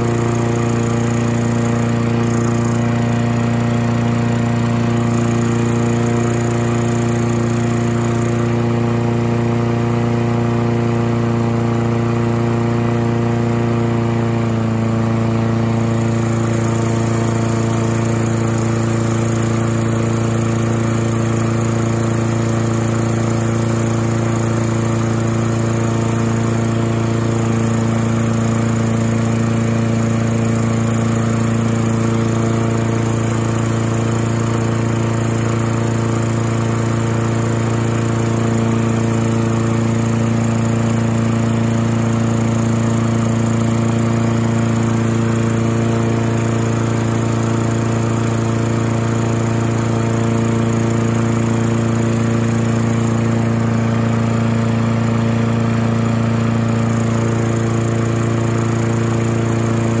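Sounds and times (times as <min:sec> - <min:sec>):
lawn mower engine running: 0:00.0 - 1:00.0.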